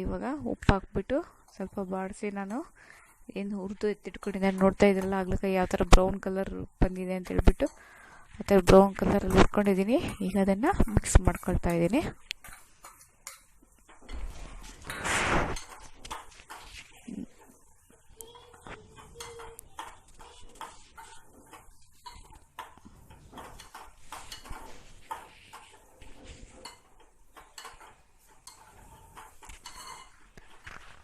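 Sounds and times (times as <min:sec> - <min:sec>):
spatula clinking and scraping pan: 0:01.2 - 0:06.0, 0:07.2 - 0:31.0.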